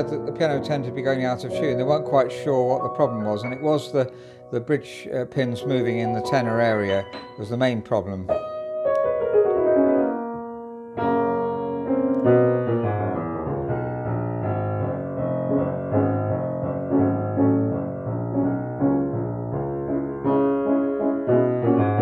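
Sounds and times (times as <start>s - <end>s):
upright piano playing: 0.0s - 22.0s.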